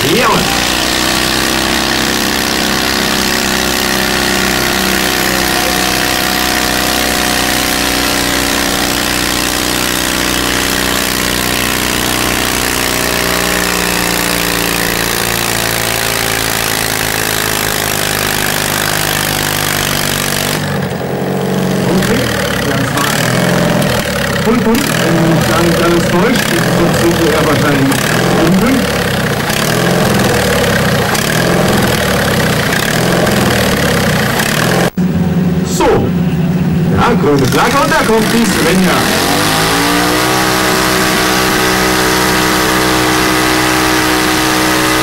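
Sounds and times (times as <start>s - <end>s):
tractor engine under load: 0.0s - 35.6s, 36.2s - 45.0s.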